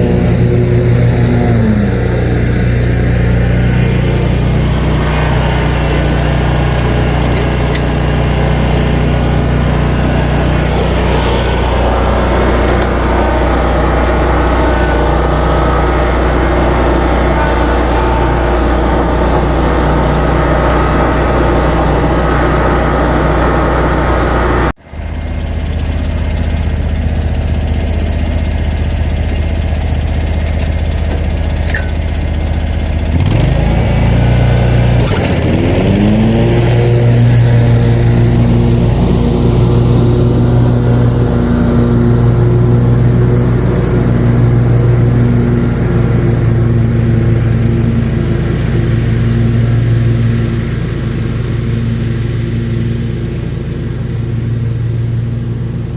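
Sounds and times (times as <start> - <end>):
mower engine running: 0.0 - 55.9.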